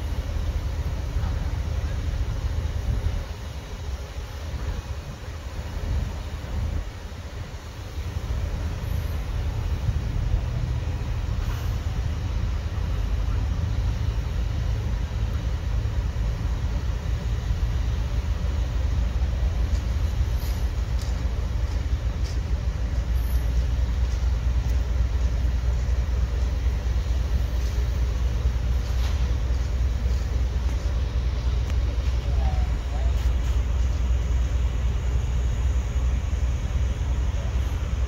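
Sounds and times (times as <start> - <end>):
crane diesel engine rumbling: 0.0 - 38.0.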